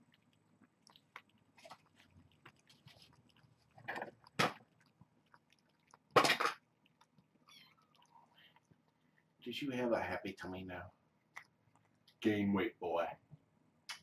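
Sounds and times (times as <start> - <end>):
cats chewing and licking: 0.0 - 9.6, 10.4 - 12.4.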